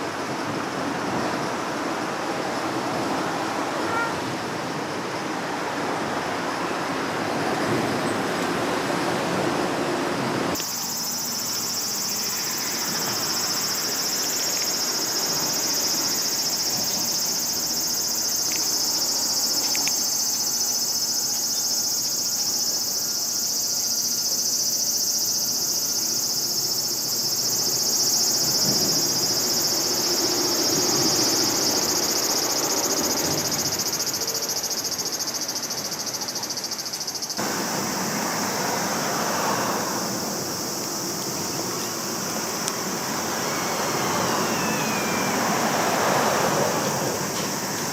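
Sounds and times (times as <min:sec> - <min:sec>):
high-pitched insect chorus: 0:00.0 - 0:09.7, 0:10.5 - 0:47.9.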